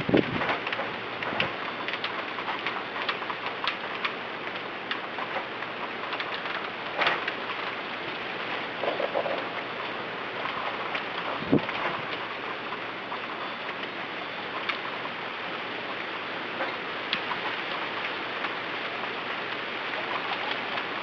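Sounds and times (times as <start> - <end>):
heavy rain in wind: 0.0 - 21.0.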